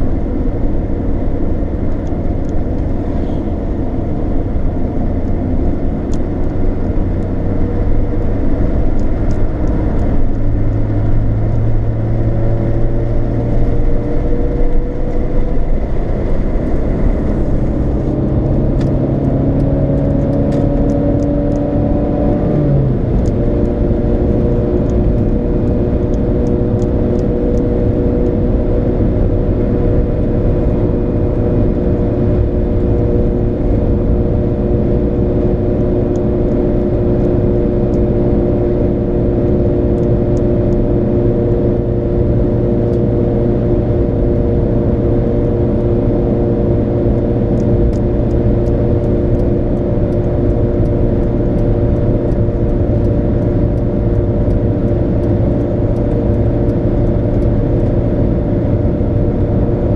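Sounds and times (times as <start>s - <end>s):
car engine drone from inside cabin: 0.0s - 59.9s
tyre road noise: 0.0s - 59.9s.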